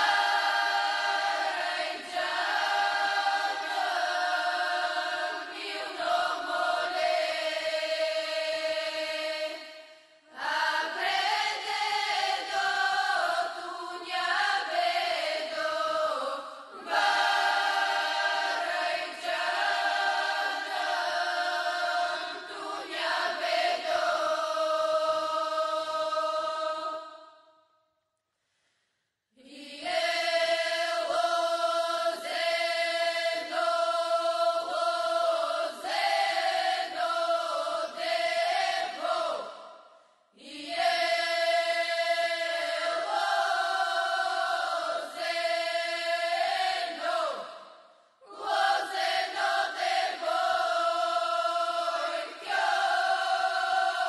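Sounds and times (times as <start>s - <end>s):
women singing folk song: 0.0s - 27.4s, 29.4s - 39.7s, 40.4s - 47.7s, 48.3s - 54.0s.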